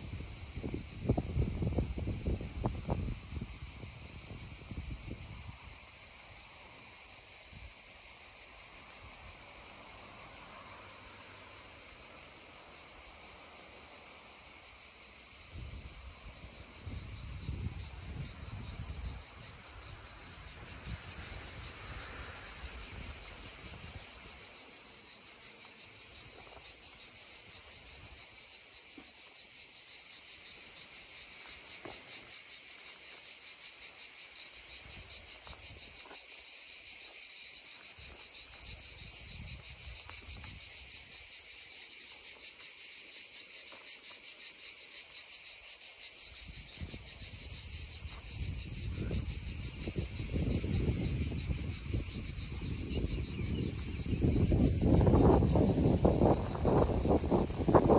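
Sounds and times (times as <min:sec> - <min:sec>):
cicadas droning: 0:00.0 - 0:57.9.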